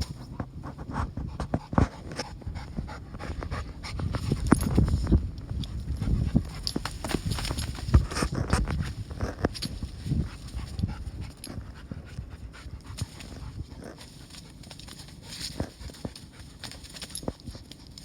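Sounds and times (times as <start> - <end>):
dog panting: 0.1 - 18.0.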